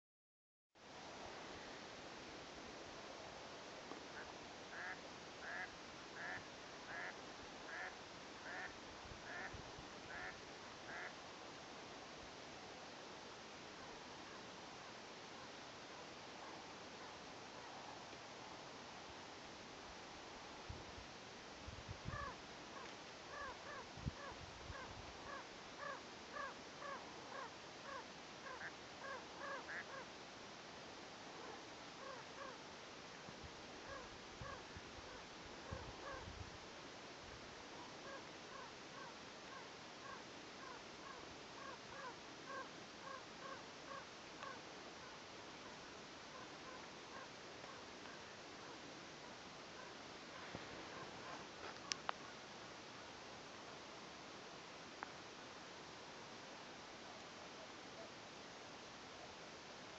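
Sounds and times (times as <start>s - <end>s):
faint hiss: 0.8s - 59.9s.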